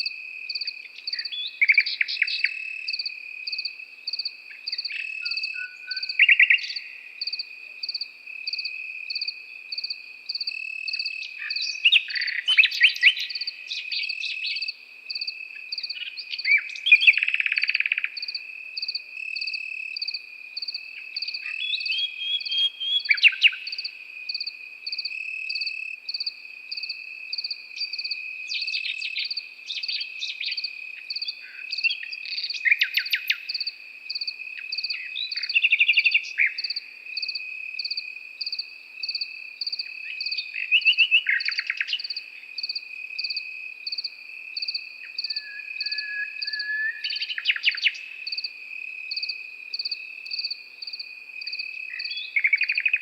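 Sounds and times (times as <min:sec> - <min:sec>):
cricket chirping: 0:00.0 - 0:53.0
cricket trilling: 0:00.0 - 0:53.0
nightingale singing: 0:00.0 - 0:53.0.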